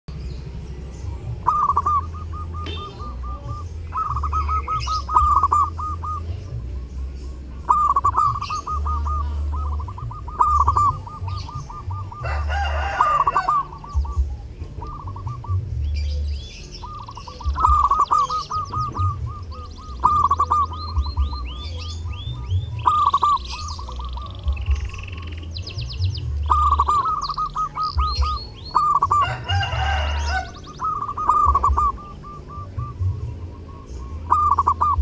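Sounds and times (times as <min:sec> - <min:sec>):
small birds chirping: 0:00.1 - 0:35.0
dove cooing: 0:00.2 - 0:35.0
harsh bird call: 0:01.4 - 0:35.0.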